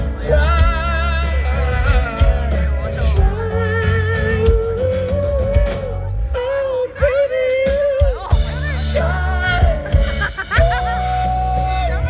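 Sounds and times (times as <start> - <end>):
live band music: 0.0 - 12.0
singing with vibrato: 0.0 - 12.0.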